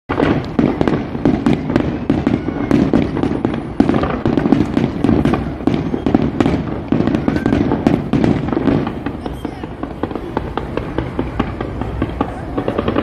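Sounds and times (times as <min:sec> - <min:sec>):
fireworks bangs and cracks: 0:00.1 - 0:13.0.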